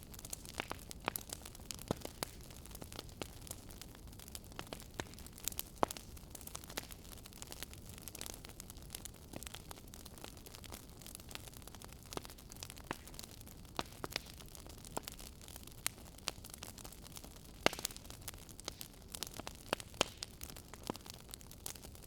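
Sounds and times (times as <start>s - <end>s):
soft hiss of burning: 0.0s - 22.0s
wood fire crackling and popping: 0.0s - 22.0s.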